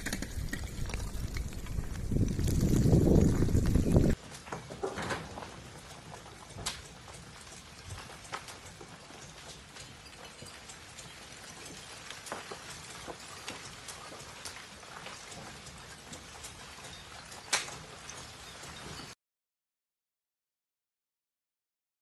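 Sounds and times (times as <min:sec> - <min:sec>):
lava blocks cracking and clinking: 0:00.0 - 0:19.2.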